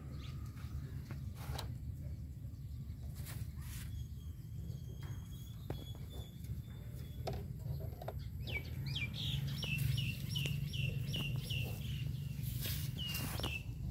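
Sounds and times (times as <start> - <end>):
bird chirping: 2.0 - 13.9.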